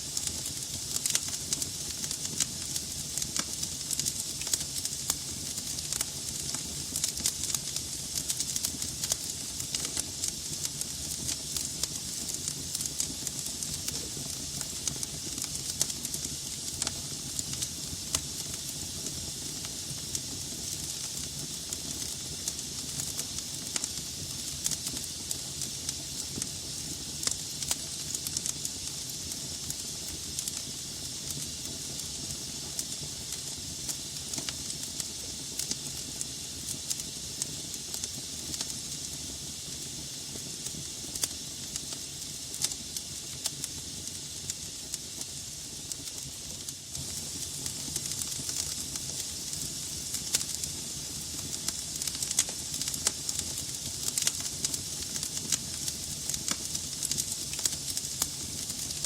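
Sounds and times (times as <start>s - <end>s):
flame hissing: 0.0s - 59.0s
wood crackling and popping: 0.1s - 32.0s, 32.7s - 39.2s, 40.4s - 43.8s, 45.8s - 59.0s.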